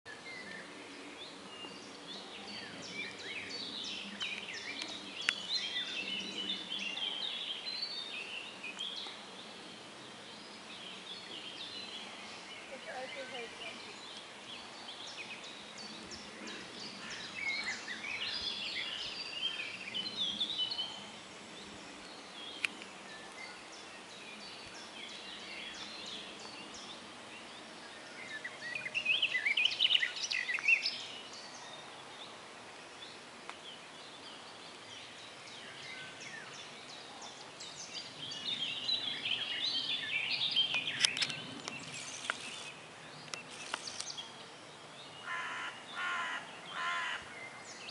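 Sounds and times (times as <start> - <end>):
songbird singing: 0.1 - 47.9
steady outdoor hiss: 0.1 - 47.9.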